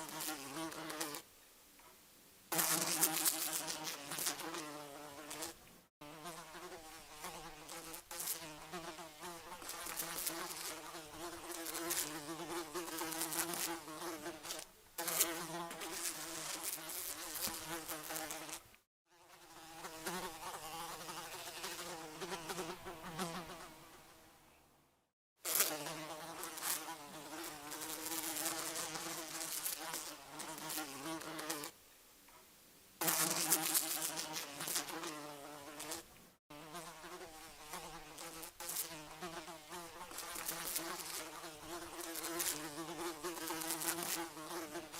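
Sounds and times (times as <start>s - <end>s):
housefly buzzing: 0.0s - 1.2s, 2.5s - 24.0s, 25.4s - 31.7s, 33.0s - 44.9s.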